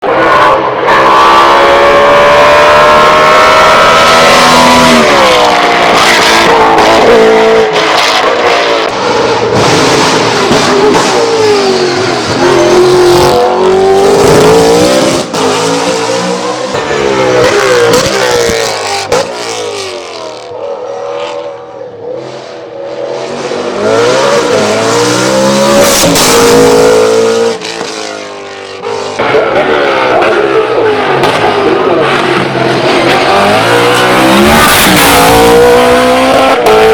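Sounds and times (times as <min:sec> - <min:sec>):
race car engine revving high: 0:00.0 - 0:36.9.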